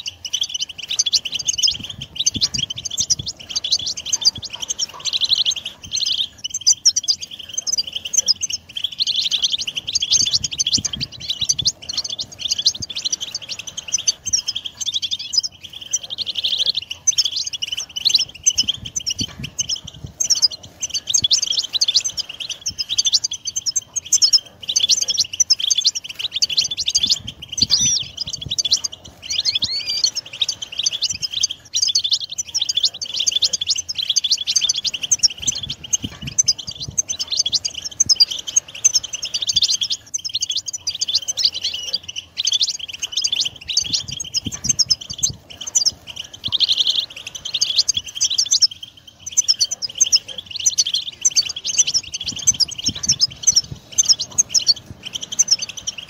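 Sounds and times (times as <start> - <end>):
finches twittering in chorus: 0.0 - 56.0.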